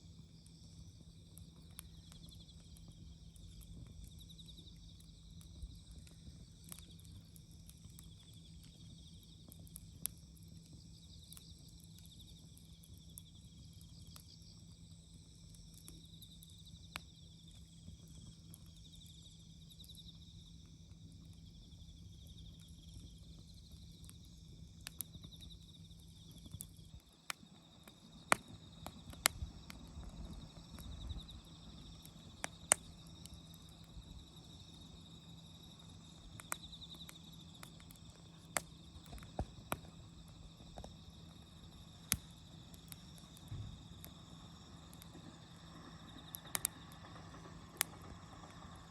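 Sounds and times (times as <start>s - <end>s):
insects chirping: 0.0s - 48.9s
wood fire crackling and popping: 0.0s - 48.9s.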